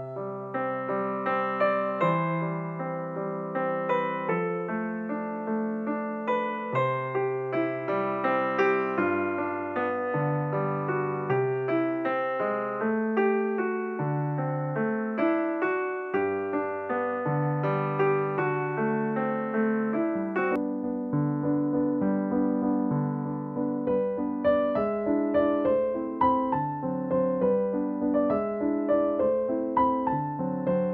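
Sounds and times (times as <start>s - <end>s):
solo piano music: 0.0s - 30.9s.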